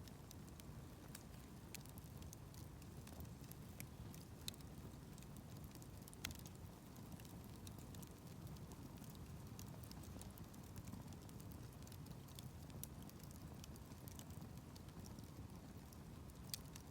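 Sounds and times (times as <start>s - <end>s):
campfire crackling and popping: 0.0s - 16.9s.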